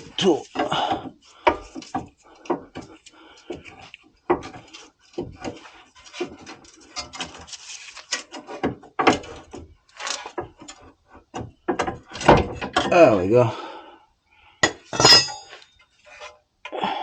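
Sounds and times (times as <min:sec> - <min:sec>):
hand tools knocking and scraping: 0:00.0 - 0:13.2, 0:14.6 - 0:16.3.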